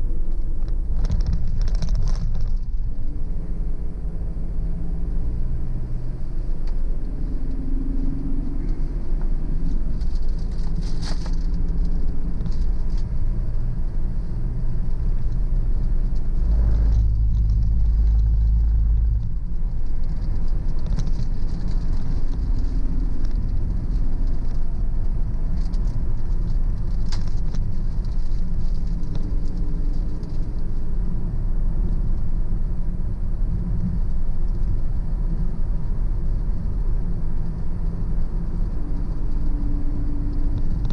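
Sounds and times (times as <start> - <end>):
car driving on road: 0.0 - 40.9.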